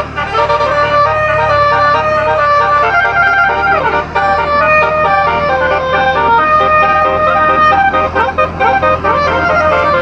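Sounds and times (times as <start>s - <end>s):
air horn melody: 0.0s - 10.0s.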